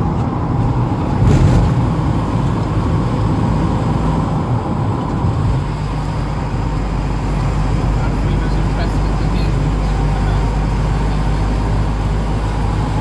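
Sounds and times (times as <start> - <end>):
vehicle engine and tyre drone: 0.0 - 13.0.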